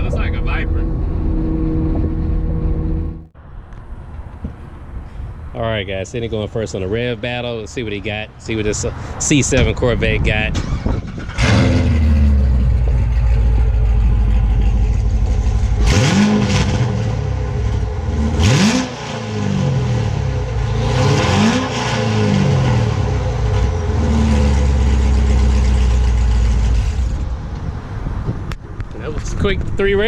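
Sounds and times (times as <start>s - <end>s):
car engine idling and revving: 0.0s - 5.4s, 6.8s - 29.0s.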